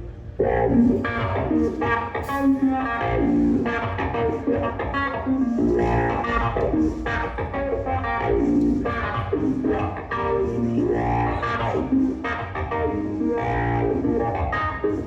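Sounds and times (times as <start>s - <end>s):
electric guitar single notes: 0.0s - 15.0s.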